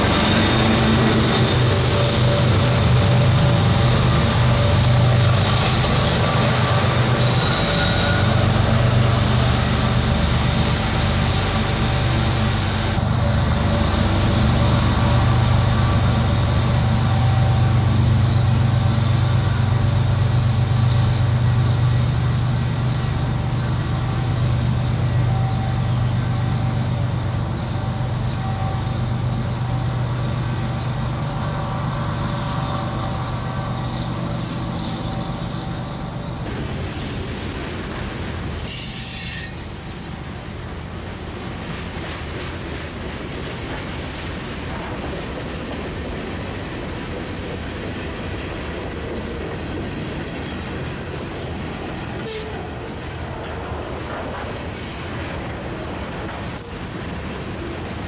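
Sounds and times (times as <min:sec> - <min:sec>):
locomotive engine humming: 0:00.0 - 0:58.0.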